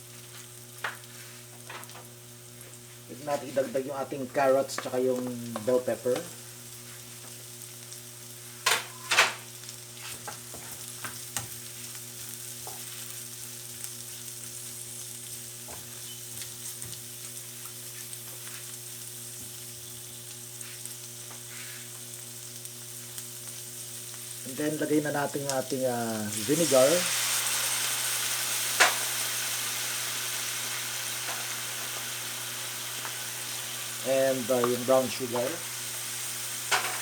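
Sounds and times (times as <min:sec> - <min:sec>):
vegetables sizzling in oil: 0:00.0 - 0:37.0.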